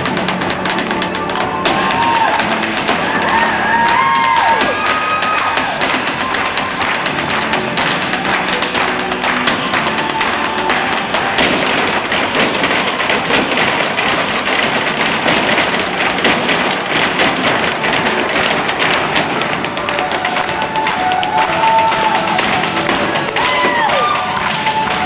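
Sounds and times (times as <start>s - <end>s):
dance music: 0.0s - 25.0s
dance shoes tapping on stage: 0.0s - 25.0s
people clapping in time: 0.0s - 25.0s.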